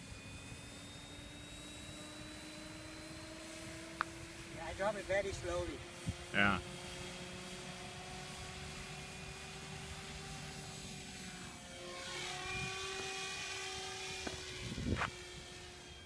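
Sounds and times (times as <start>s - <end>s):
model helicopter whine and rotor hum: 0.0s - 16.0s.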